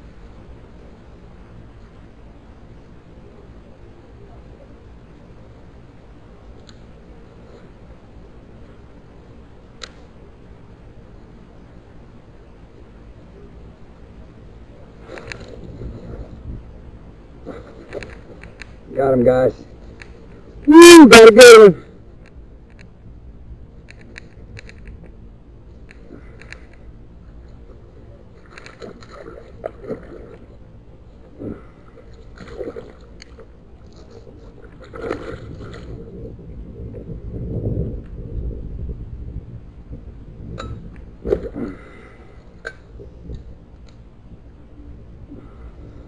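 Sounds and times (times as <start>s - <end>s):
wind rumble on microphone: 0.0s - 20.7s, 21.8s - 46.0s.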